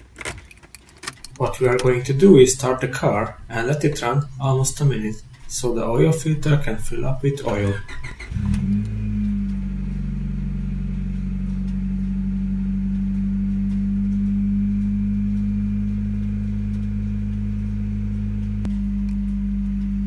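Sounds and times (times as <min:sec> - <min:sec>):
car engine idling: 0:01.1 - 0:20.0.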